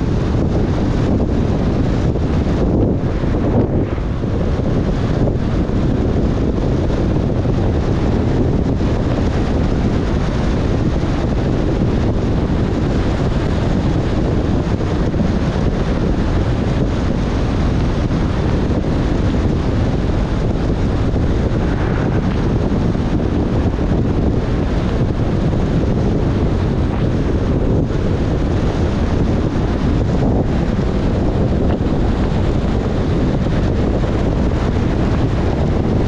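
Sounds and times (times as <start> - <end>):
car driving on wet road: 0.0 - 36.0
wind noise: 0.0 - 36.0.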